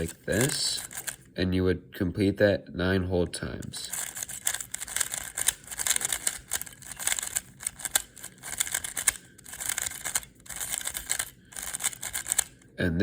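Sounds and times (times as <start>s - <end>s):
puzzle cube clicking and rattling: 0.0s - 1.3s, 3.6s - 12.7s.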